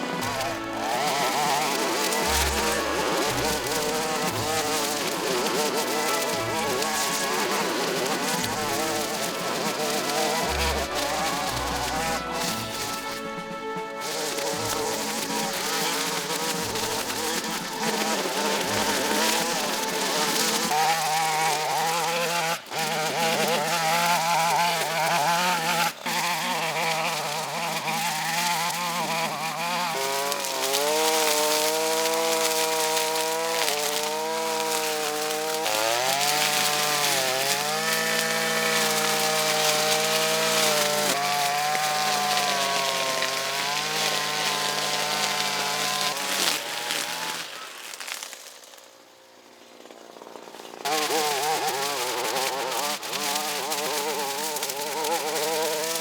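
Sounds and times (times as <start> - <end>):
two-stroke engine buzzing: 0.0 - 48.4, 49.0 - 56.0.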